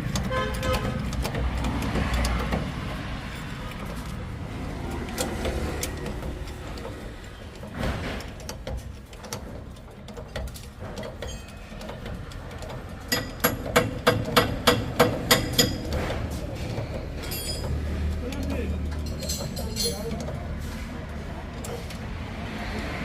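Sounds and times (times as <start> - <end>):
workshop clatter: 0.0 - 23.0.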